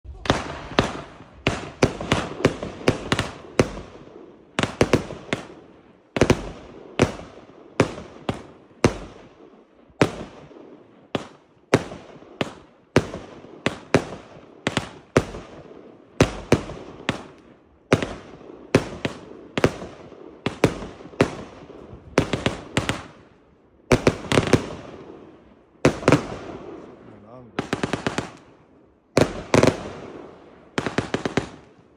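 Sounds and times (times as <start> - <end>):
fireworks bangs: 0.0 - 31.9.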